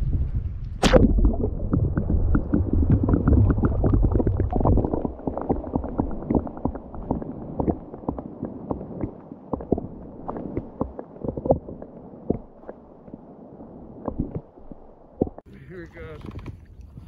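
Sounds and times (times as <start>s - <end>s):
low underwater rumble: 0.0s - 15.5s
underwater bubbling and gurgling: 0.0s - 15.5s
water splash: 0.0s - 15.5s.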